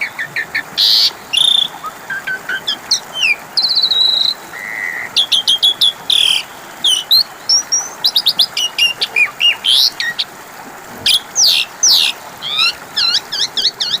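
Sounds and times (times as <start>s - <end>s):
starling singing: 0.0s - 10.3s, 11.1s - 14.0s.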